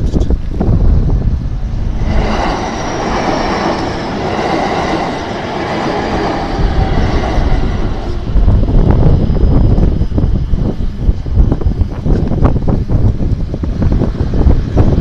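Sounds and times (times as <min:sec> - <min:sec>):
electric train wheels on rails: 0:00.0 - 0:15.0.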